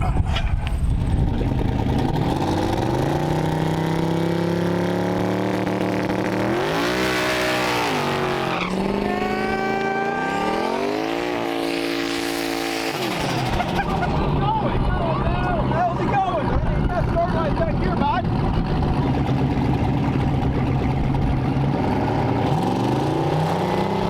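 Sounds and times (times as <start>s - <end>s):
drag car engine revving: 0.0s - 24.0s.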